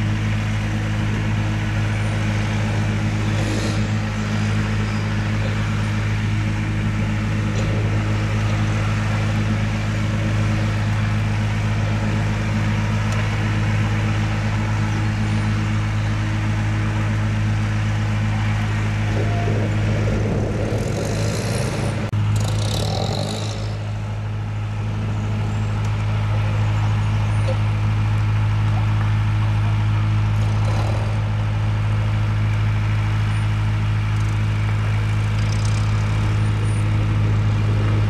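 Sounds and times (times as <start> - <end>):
vehicle engine humming: 0.0 - 38.0.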